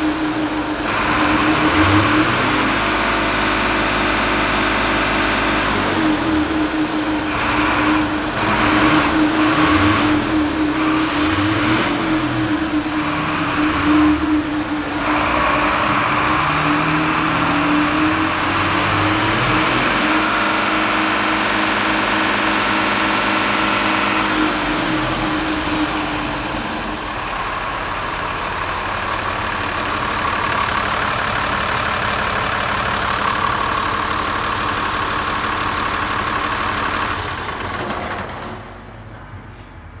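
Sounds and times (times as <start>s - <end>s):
diesel engine idling: 0.0s - 39.6s.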